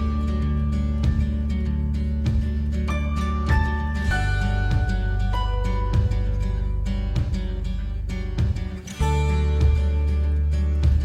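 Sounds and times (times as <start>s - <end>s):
plucked guitar: 0.0s - 11.0s
soft background music: 0.0s - 11.0s.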